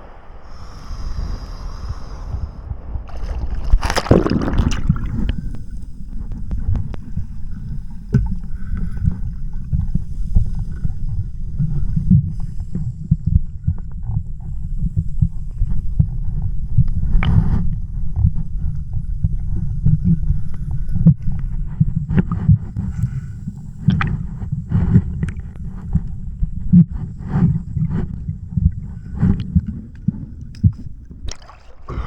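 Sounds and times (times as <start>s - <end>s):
stormy sea: 0.0s - 32.0s
wind buffeting microphone: 0.0s - 32.0s.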